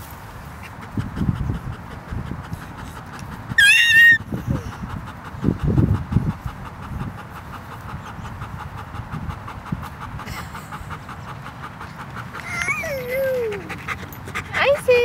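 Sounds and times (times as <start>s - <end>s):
fast panting breaths: 0.5s - 15.0s.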